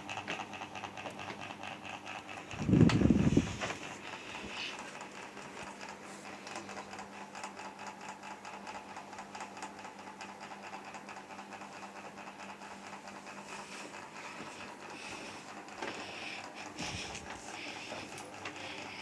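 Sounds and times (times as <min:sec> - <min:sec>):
ceiling fan motor hum: 0:00.0 - 0:19.0
fan ticking rattle: 0:00.0 - 0:19.0.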